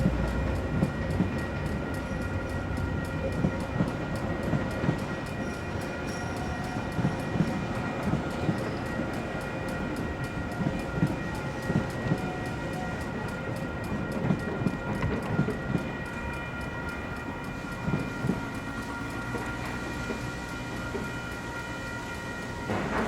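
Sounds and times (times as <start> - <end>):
crossing warning bells ringing: 0.0 - 23.0
train rumbling: 0.0 - 23.0.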